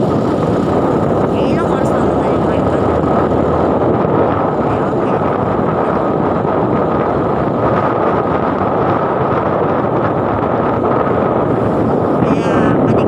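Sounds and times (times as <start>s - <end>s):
road and engine noise: 0.0s - 13.0s
wind roar on microphone: 0.0s - 13.0s.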